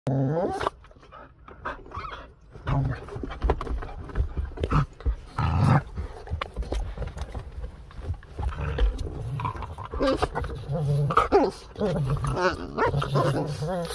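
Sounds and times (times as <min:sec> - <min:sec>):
dogs growling: 0:00.1 - 0:13.9
scuffling bumps: 0:02.6 - 0:13.9.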